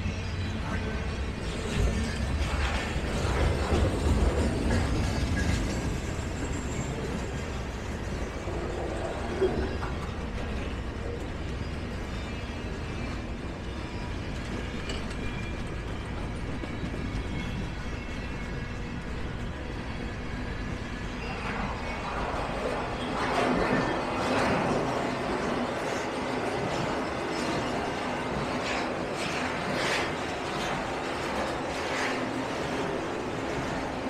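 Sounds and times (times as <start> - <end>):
diesel locomotive rumbling: 0.0 - 34.0.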